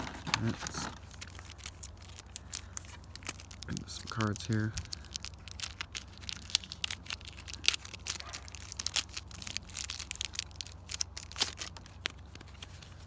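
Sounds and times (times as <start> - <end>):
plastic blister pack crackling: 0.0 - 13.0.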